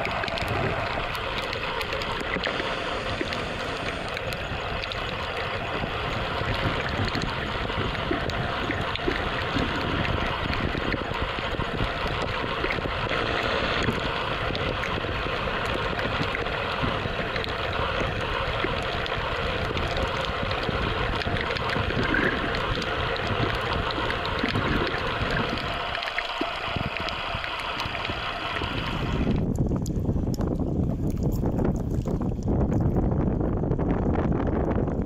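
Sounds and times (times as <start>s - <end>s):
underwater rushing hiss: 0.0s - 29.4s
faint underwater clicks and crackles: 0.0s - 35.0s.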